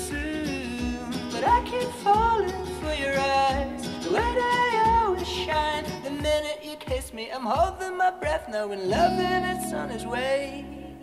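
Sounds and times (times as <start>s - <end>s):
upbeat song over speakers: 0.0s - 11.0s.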